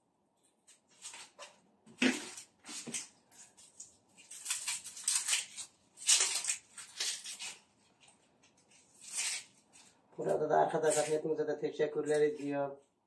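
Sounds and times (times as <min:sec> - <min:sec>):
onion skins crackling: 0:00.7 - 0:11.2.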